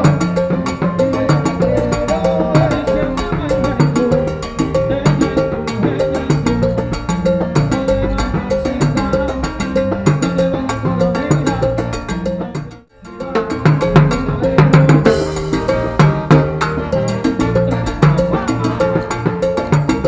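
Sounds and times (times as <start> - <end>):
busy percussion rhythm: 0.0 - 20.0
salsa band playing: 0.0 - 20.0.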